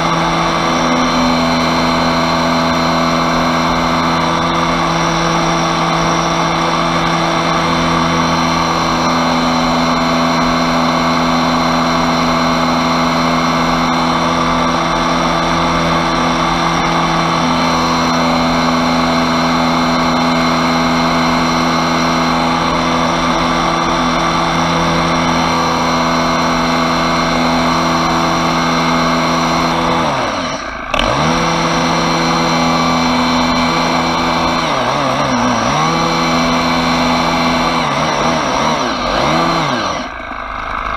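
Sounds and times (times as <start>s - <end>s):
pressure washer running: 0.0s - 40.9s.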